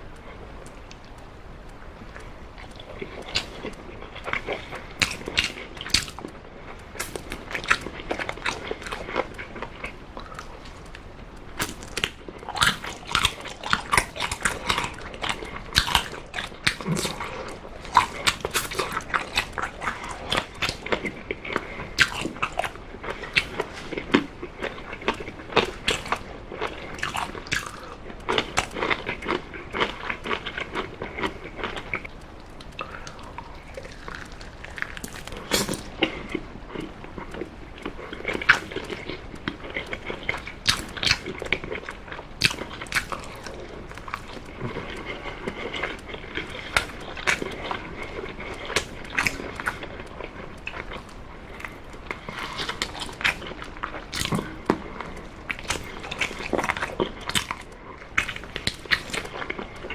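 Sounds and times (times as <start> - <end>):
person chewing meat: 0.0 - 59.9.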